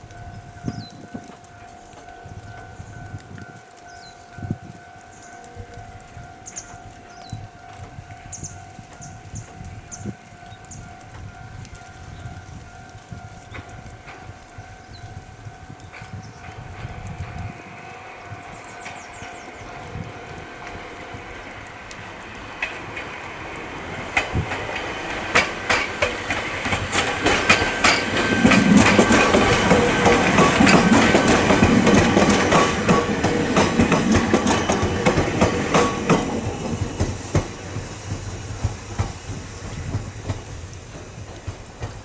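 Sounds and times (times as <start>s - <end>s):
electric train passing: 0.0s - 42.0s
wheels clacking over rail joints: 0.0s - 42.0s.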